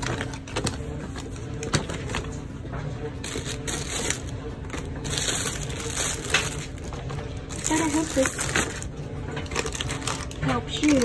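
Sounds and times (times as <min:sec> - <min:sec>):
plastic packaging crinkling: 0:00.0 - 0:02.4, 0:03.1 - 0:11.0.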